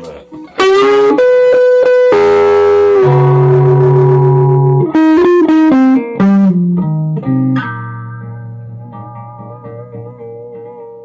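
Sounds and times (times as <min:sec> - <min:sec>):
overdriven electric guitar lead: 0:00.0 - 0:11.0.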